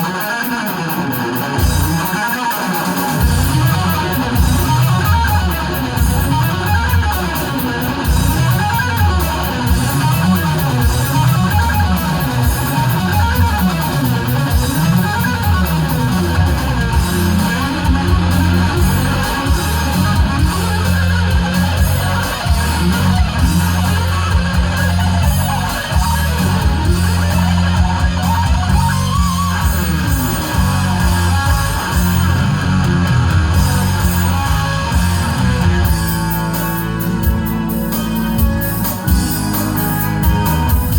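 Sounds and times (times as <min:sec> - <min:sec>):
electric guitar fast runs: 0:00.0 - 0:40.9
bass line: 0:01.6 - 0:02.1, 0:03.2 - 0:40.9.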